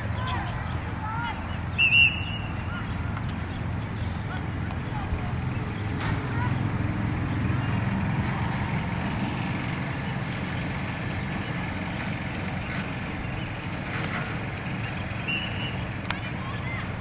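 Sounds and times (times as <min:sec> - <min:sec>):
low rumbling outdoor noise: 0:00.0 - 0:17.0.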